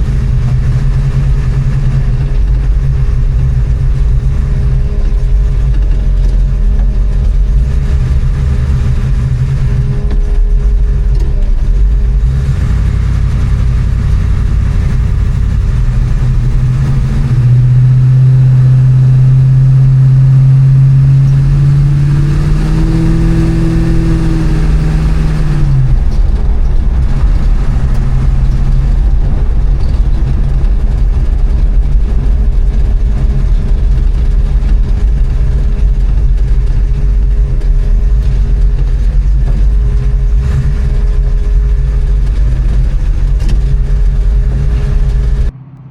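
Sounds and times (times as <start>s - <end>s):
vee eight engine rumbling: 0.0s - 45.9s.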